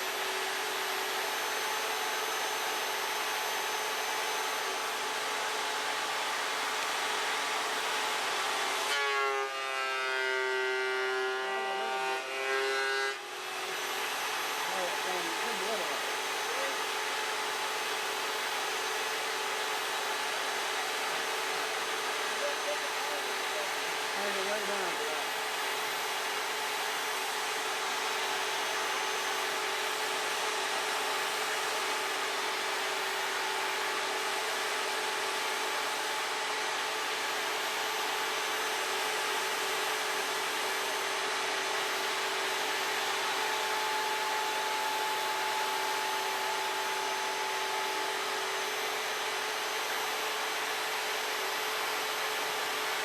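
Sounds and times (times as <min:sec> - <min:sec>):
wood planer running: 0:00.0 - 0:53.0.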